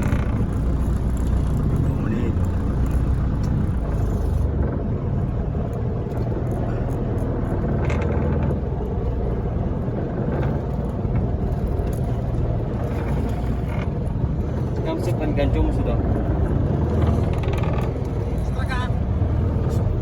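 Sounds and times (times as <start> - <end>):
boat engine rumbling: 0.0 - 20.0.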